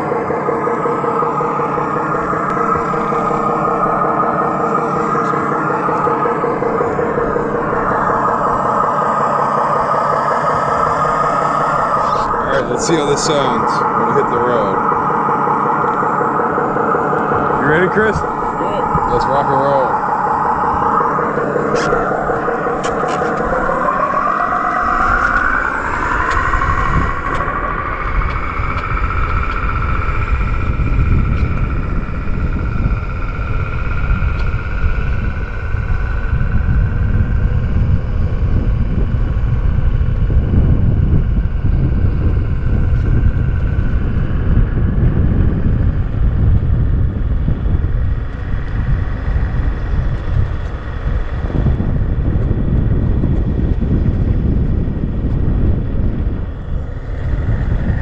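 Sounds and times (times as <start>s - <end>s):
synthesized truck engine sound: 0.0s - 58.0s
wind noise rumble: 0.0s - 58.0s.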